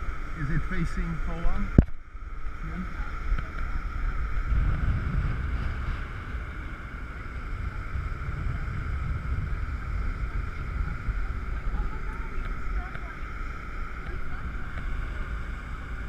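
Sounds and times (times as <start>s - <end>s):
boat engine high hum: 0.0s - 16.0s
wind buffeting microphone: 0.0s - 16.0s.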